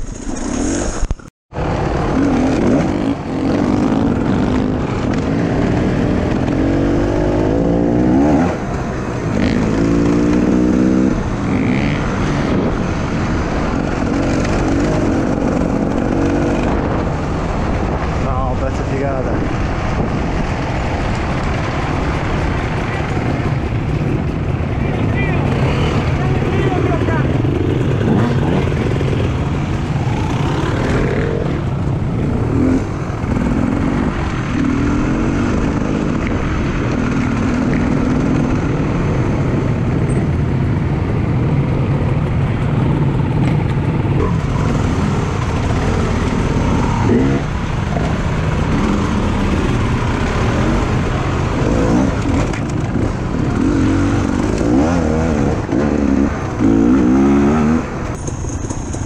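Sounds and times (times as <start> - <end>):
motorcycle engine revving: 0.0 - 59.0
steady rush of noise: 0.0 - 59.0.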